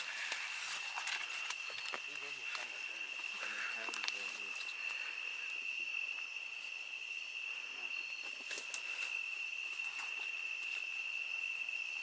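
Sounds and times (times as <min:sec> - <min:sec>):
chorus of night insects: 0:00.0 - 0:12.0.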